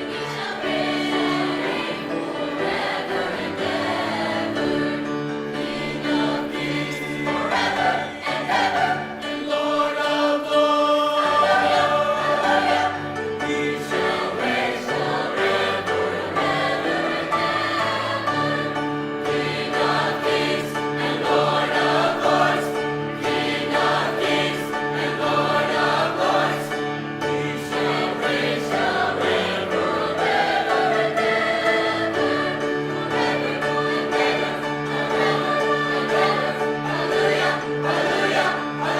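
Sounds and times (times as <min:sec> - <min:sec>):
choir singing: 0:00.0 - 0:38.9
musical accompaniment: 0:00.0 - 0:38.9.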